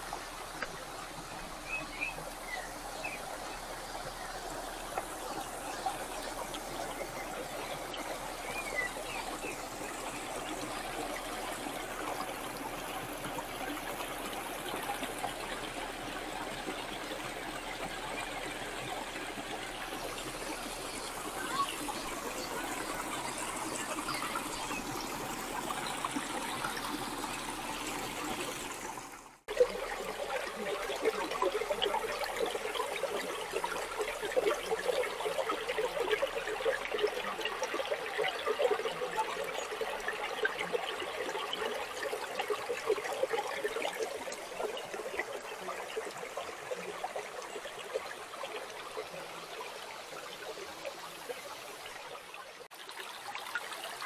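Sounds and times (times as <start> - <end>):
stream water over rocks: 0.0 - 54.0.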